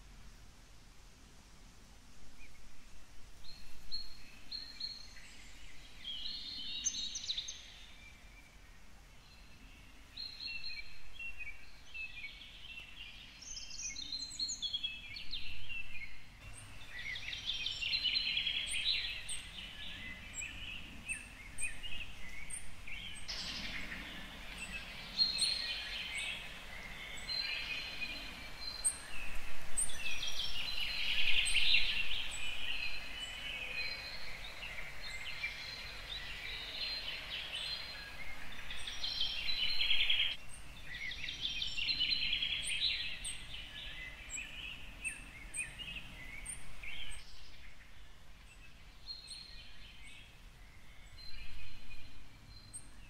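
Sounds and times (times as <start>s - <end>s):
soft background hiss: 0.0s - 53.0s
birds chirping and singing: 3.4s - 53.0s.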